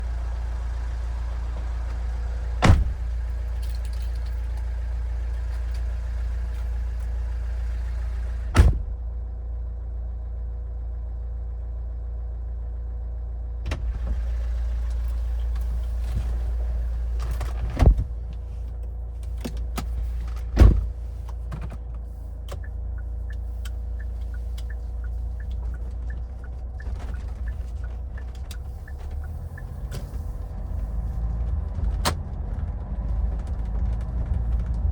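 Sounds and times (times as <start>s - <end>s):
engine and road rumble: 0.0s - 34.9s.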